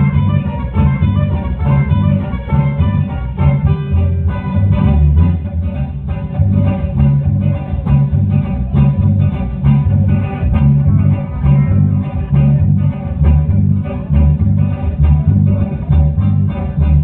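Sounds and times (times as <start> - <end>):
bass guitar line: 0.0 - 17.0
loud band music: 0.0 - 17.0.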